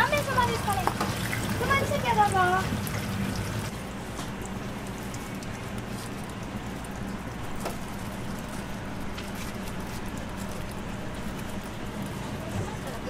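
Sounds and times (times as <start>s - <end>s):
oil sizzling in deep fryer: 0.0s - 12.0s.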